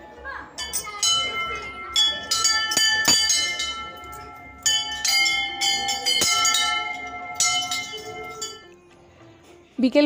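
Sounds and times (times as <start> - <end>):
metal temple bell ringing: 0.6 - 8.8.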